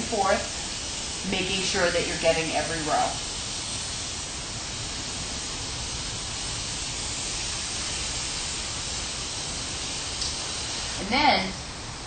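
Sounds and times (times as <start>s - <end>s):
water spraying from a nozzle: 0.0s - 12.0s.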